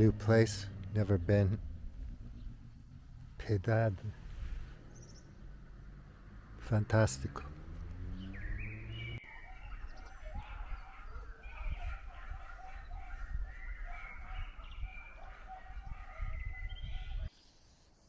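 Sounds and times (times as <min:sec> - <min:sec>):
low wind rumble on microphone: 0:00.0 - 0:06.2, 0:08.1 - 0:17.3.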